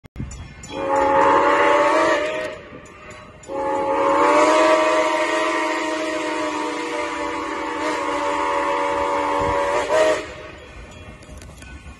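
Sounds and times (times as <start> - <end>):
steam locomotive chime whistle: 0.2 - 11.9.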